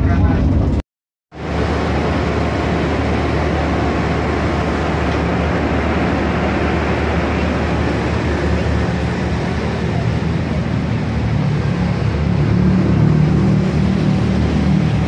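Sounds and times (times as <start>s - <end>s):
train carriages rumbling: 1.4s - 15.0s.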